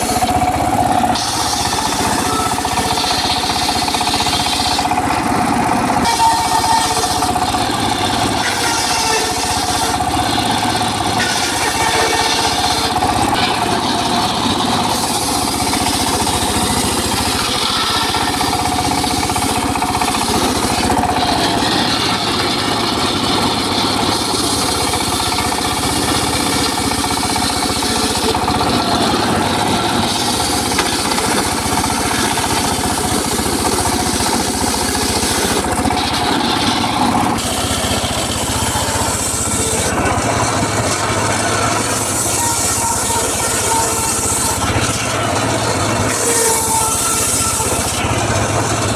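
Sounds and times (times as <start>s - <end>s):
saw blade hissing through wood: 0.0s - 48.1s
circular saw engine running: 0.0s - 48.9s.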